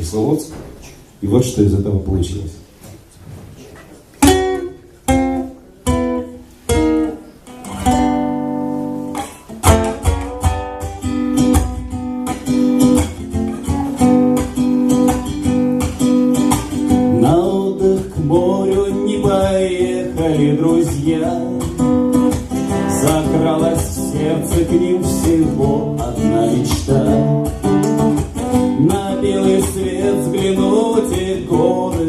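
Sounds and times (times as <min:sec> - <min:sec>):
acoustic guitar strumming: 0:04.1 - 0:32.0.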